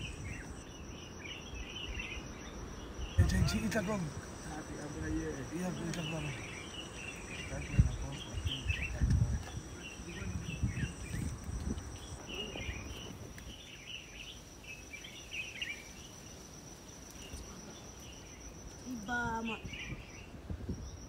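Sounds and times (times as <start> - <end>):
insect trilling: 0.0 - 21.0.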